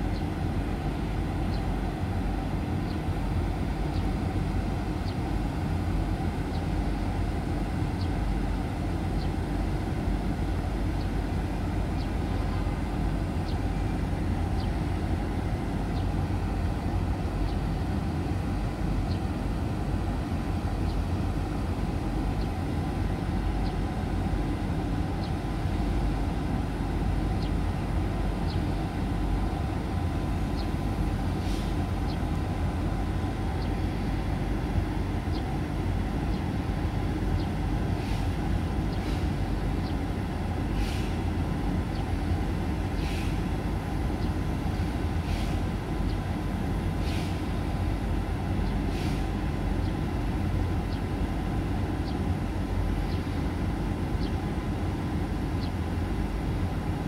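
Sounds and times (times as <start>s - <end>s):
faint steady hum: 0.0s - 57.0s
low outdoor rumble: 0.0s - 57.0s.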